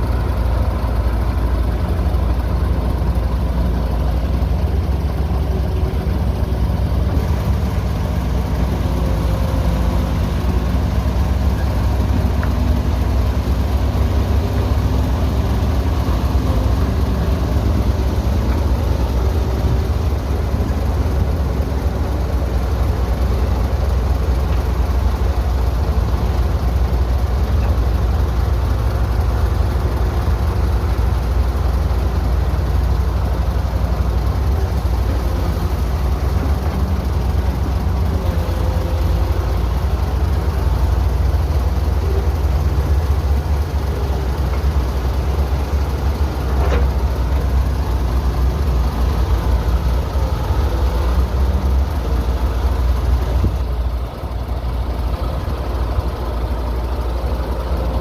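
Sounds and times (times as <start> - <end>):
heavy machinery engine rumbling: 0.0 - 58.0.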